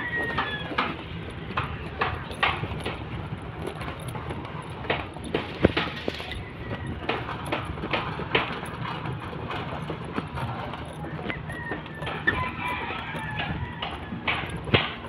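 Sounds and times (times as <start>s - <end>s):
footsteps on bamboo footbridge: 0.0s - 15.0s.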